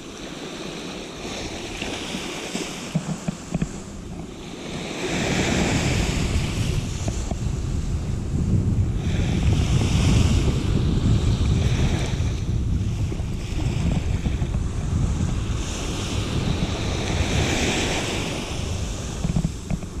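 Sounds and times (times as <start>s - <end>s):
waves washing onto beach: 0.0s - 20.0s
wind buffeting microphone: 0.0s - 20.0s.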